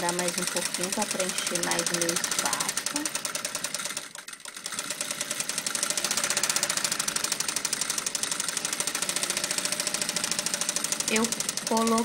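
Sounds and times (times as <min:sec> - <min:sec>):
sewing machine stitching: 0:00.0 - 0:12.0.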